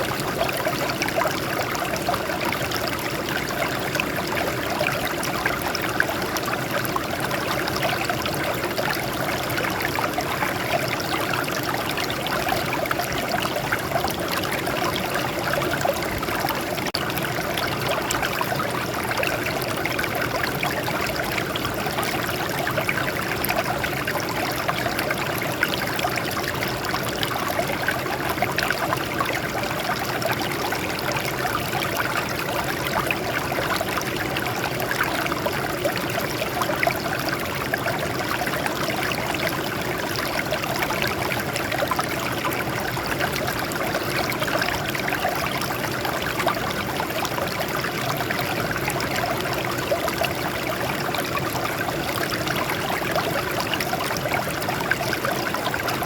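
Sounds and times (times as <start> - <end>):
water flowing over rocks: 0.0 - 56.0.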